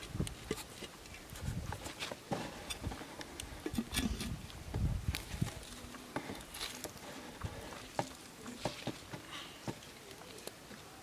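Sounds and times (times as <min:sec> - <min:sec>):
twigs clicking and knocking: 0:00.0 - 0:11.0.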